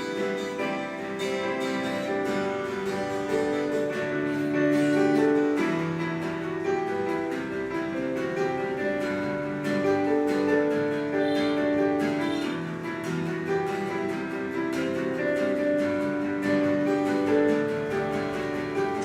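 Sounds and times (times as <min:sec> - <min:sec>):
guitar strummed and plucked: 0:00.0 - 0:19.0.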